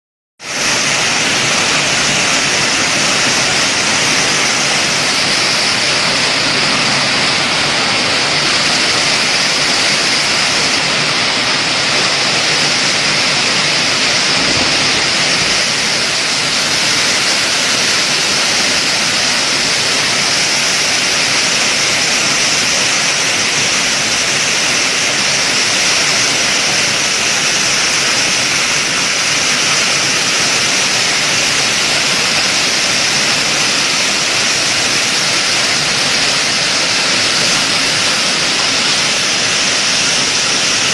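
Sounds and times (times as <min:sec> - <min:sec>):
hail and rain pelting down: 0:00.5 - 0:40.9.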